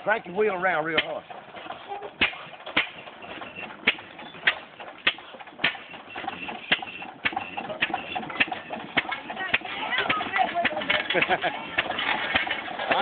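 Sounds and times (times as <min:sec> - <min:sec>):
slow engine firing sharp pops: 0:00.8 - 0:13.0.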